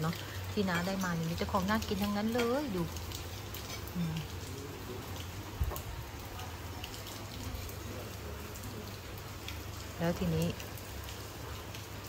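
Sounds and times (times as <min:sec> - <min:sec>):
rain dripping: 0:00.0 - 0:12.0.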